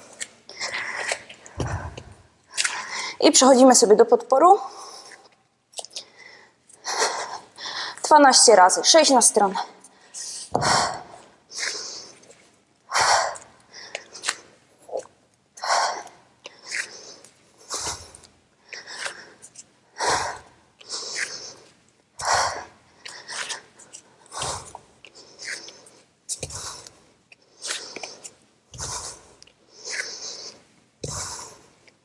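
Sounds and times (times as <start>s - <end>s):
woman breathing hard: 0.5s - 3.2s, 6.0s - 8.0s, 9.9s - 14.6s, 15.6s - 31.9s.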